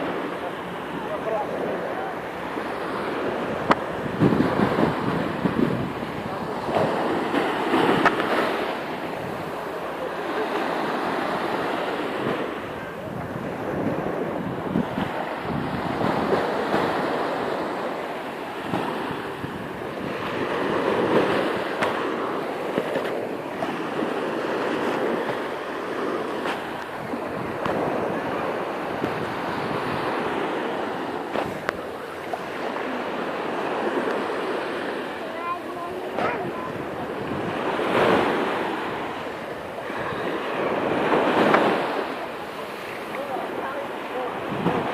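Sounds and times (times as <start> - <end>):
sea waves washing in: 0.0 - 44.9.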